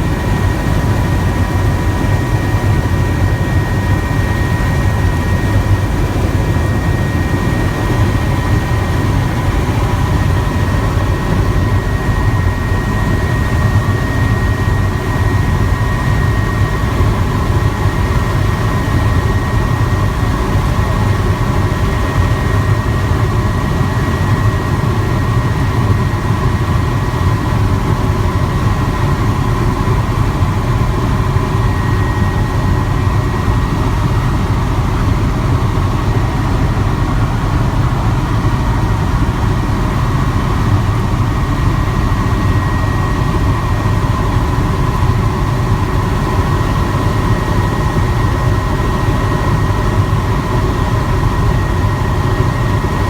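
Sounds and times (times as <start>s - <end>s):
helicopter rotor and engine rumble: 0.0s - 53.0s.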